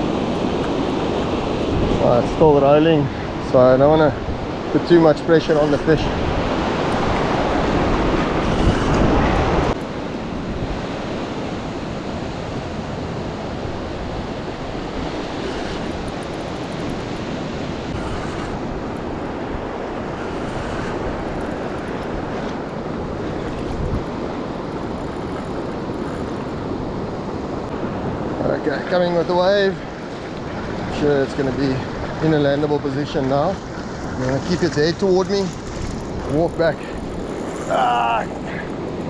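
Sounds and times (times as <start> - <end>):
waves breaking on beach: 0.0 - 39.0
wind buffeting microphone: 0.0 - 39.0.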